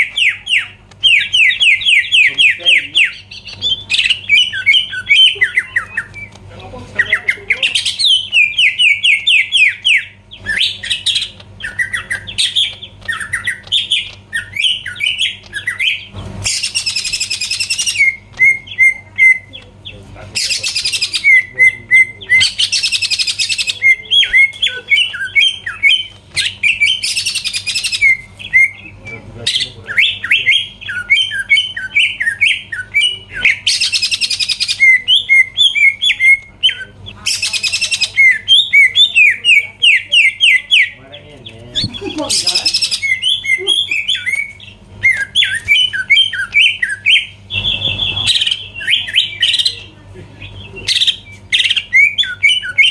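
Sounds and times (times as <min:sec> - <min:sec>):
bird singing: 0:00.0 - 0:52.9
faint low hum: 0:00.0 - 0:52.9.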